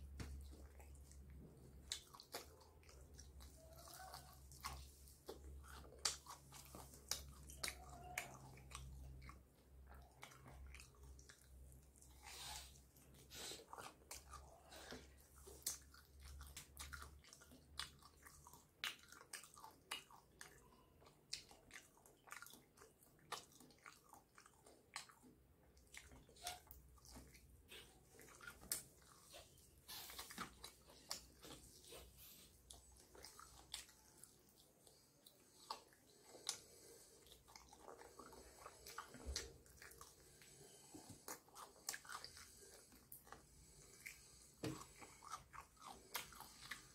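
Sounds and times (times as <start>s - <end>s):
person chewing crispy chicken: 0.0s - 46.9s.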